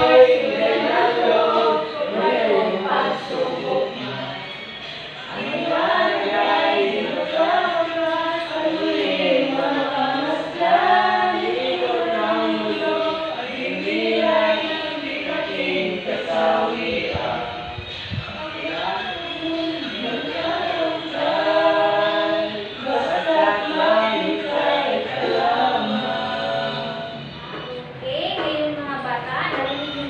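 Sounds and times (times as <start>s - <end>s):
class singing in unison: 0.0s - 28.0s.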